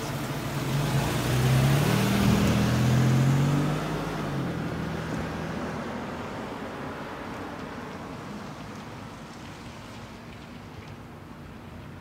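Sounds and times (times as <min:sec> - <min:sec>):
minivan engine and tyre noise: 0:00.0 - 0:12.0.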